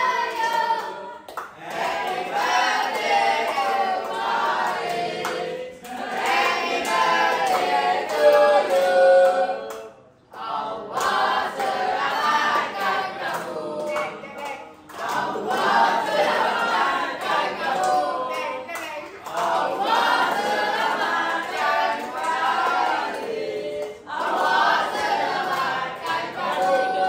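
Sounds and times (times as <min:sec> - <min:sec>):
voices singing a birthday song: 0:00.0 - 0:27.0.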